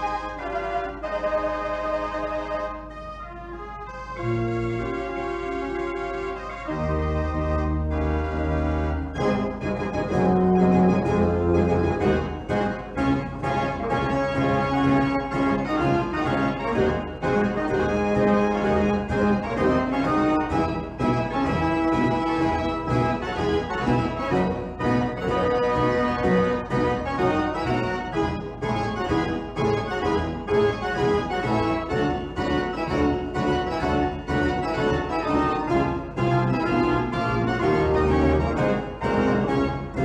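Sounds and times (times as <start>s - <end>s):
held organ-like chords: 0.0s - 40.0s.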